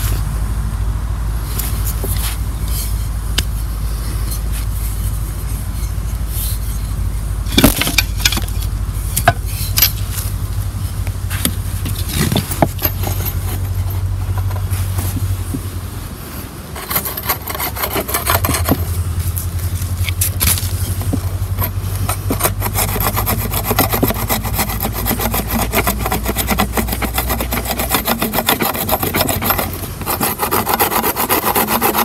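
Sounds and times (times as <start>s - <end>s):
steady low rumble: 0.0s - 31.7s
saw parts clicking and scraping: 1.5s - 10.4s, 11.0s - 15.6s, 16.3s - 32.0s.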